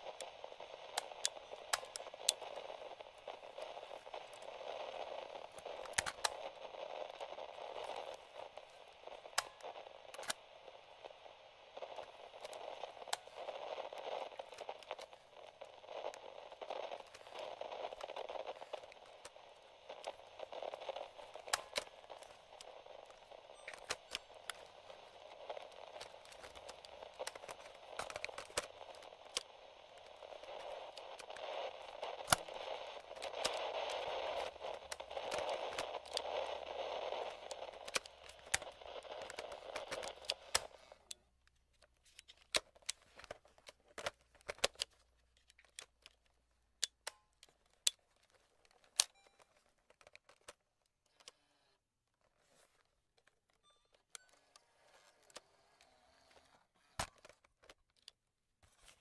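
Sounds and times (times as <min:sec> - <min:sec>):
radio static hiss with crackles: 0:00.0 - 0:59.0.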